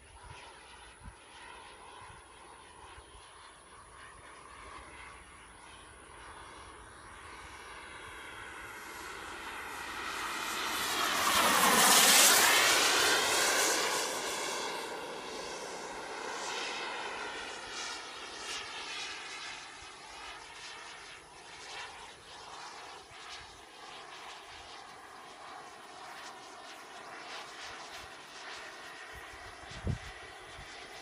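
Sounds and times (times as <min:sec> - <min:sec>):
model jet flying past: 0:00.0 - 0:31.0.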